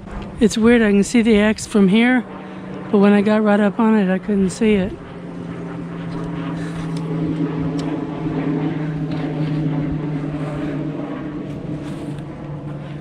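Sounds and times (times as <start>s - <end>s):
distant engine droning: 0.0s - 13.0s.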